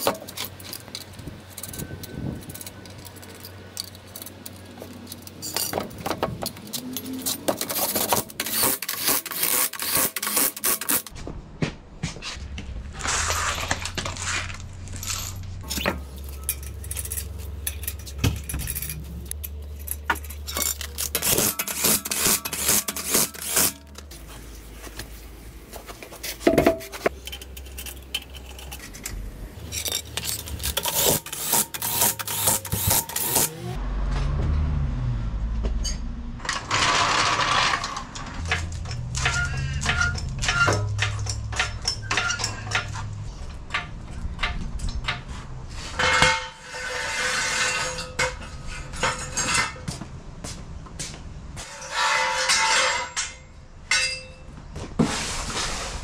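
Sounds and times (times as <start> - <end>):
wheel nuts clinking and scraping: 0.0 - 11.2, 12.4 - 33.8, 35.6 - 50.2, 51.5 - 55.8.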